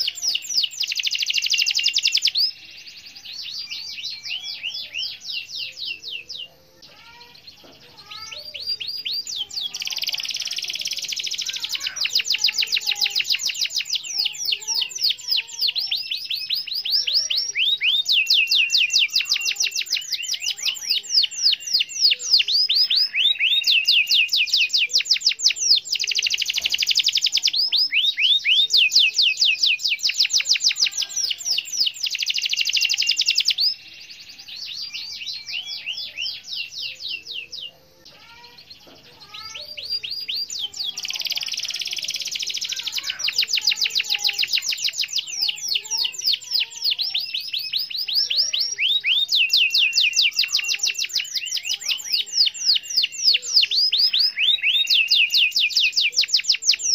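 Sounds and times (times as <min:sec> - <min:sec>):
canary singing trills: 0:00.0 - 0:56.9.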